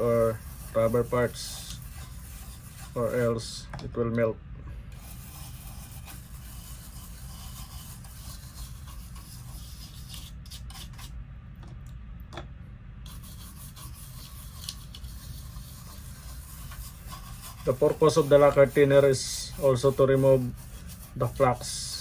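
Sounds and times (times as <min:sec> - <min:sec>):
brush scrubbing circuit board: 0:00.0 - 0:03.6, 0:04.9 - 0:11.1, 0:13.1 - 0:22.0.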